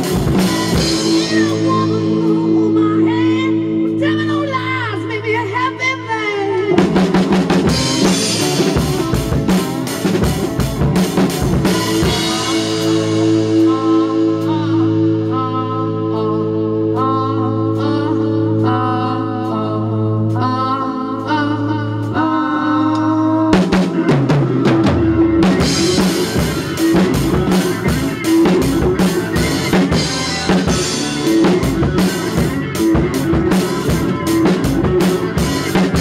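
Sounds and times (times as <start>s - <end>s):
acoustic drum kit: 0.0s - 4.3s, 5.8s - 36.0s
rock music recording: 0.0s - 36.0s.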